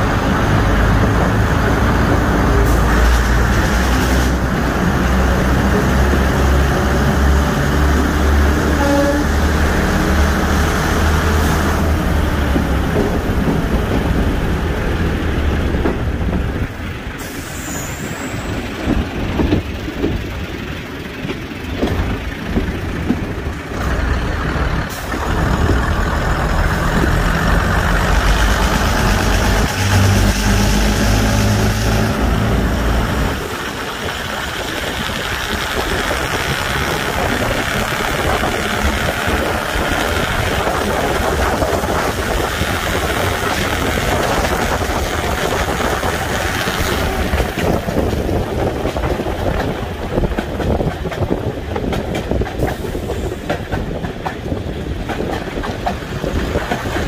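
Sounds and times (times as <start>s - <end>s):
diesel engines throbbing: 0.0s - 57.0s.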